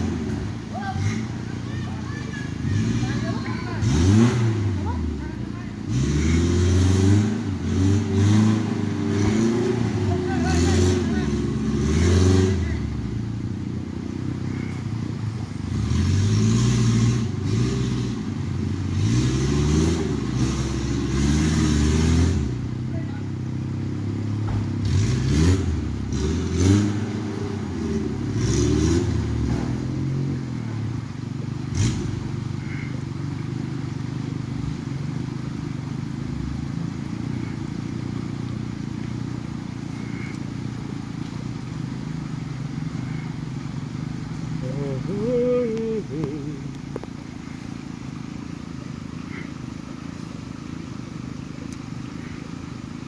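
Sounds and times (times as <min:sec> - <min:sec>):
off-road engine revving: 0:00.0 - 0:53.0.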